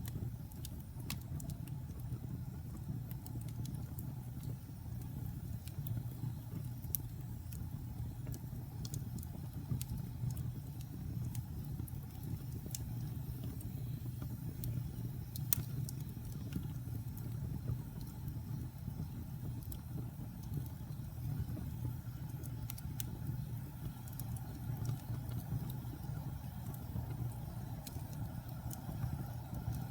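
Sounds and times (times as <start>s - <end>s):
fire crackling and popping: 0.0s - 29.9s
fire rumbling: 0.0s - 29.9s.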